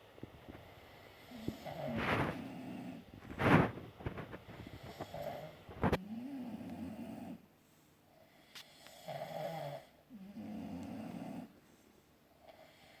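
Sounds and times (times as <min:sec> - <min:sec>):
quiet breaths: 0:00.0 - 0:13.0.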